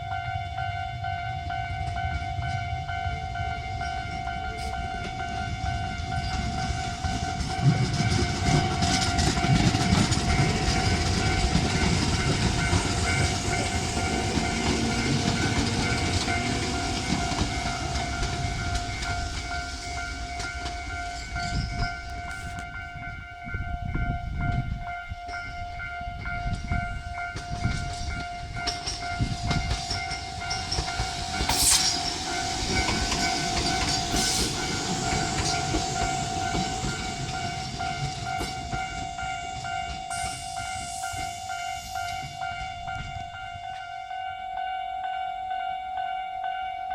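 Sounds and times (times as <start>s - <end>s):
train motors and wheels rumbling: 0.0s - 44.7s
level-crossing alarm dinging: 0.0s - 46.9s.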